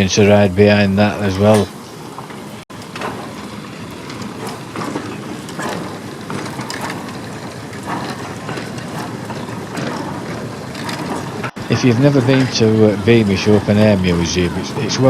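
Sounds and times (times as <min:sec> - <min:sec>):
steam train rumbling on track: 0:00.0 - 0:15.0
clanks and clicks of running gear: 0:01.1 - 0:15.0.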